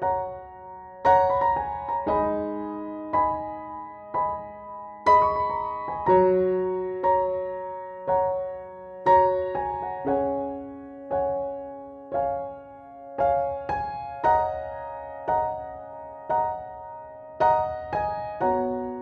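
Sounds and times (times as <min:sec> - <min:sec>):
slow calm piano music: 0:00.0 - 0:19.0.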